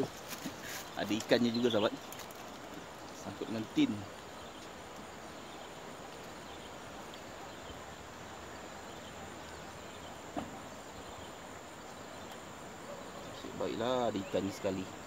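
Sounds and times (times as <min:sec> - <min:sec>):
faint insects: 0:00.0 - 0:15.0.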